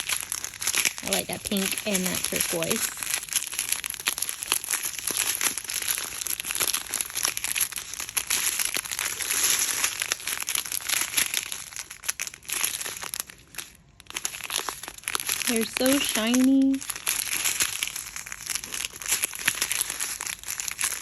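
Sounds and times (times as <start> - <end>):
plastic bags crinkling: 0.0 - 21.0.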